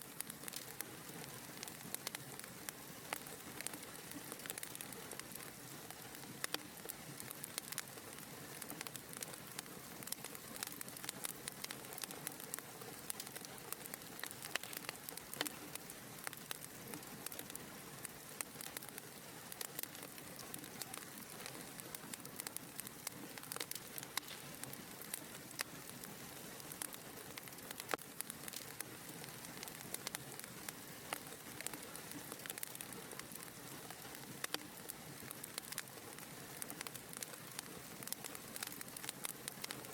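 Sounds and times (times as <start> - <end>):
wood fire crackling and hissing: 0.0 - 39.9.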